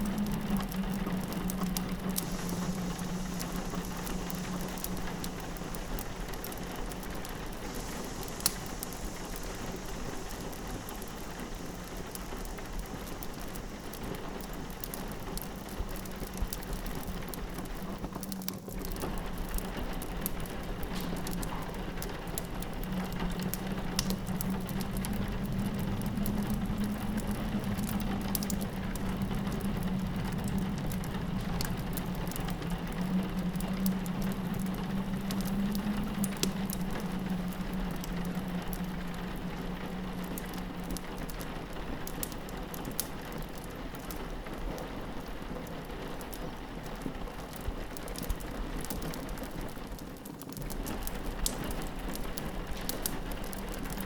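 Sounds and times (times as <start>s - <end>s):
low steady drone: 0.0s - 46.3s
rain pattering on a window: 0.0s - 54.0s
wood fire crackling: 0.0s - 54.0s.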